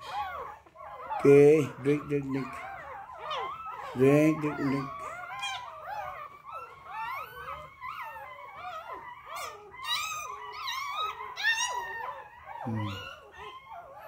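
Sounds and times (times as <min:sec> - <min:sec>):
puppies whining and squealing: 0:00.0 - 0:14.0.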